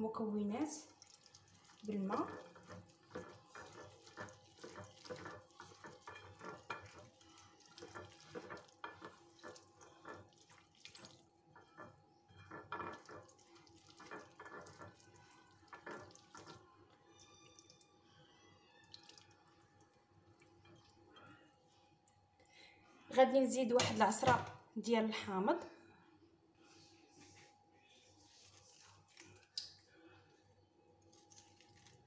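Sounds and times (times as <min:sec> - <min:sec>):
wet squelches of fingers mixing: 0:00.4 - 0:22.5, 0:27.2 - 0:32.0.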